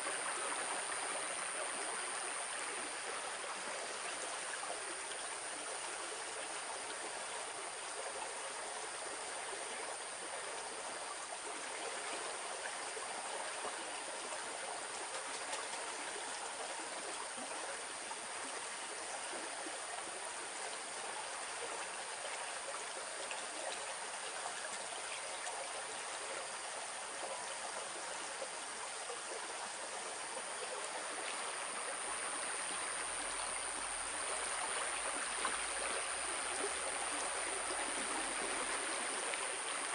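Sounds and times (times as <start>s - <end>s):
shallow stream flowing: 0.0s - 39.9s.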